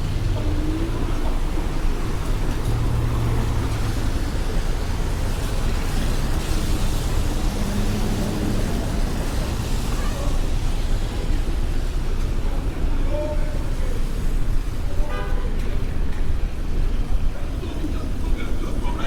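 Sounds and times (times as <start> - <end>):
vehicles passing on wet road: 0.0 - 19.0.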